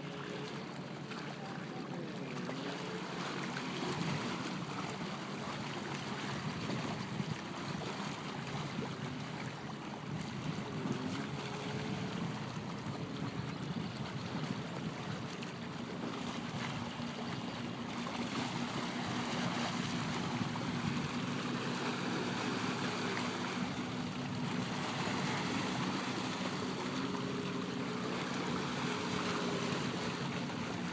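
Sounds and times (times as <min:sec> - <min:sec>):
jet ski engine running: 0:00.0 - 0:30.9
water and wind hiss: 0:00.0 - 0:30.9.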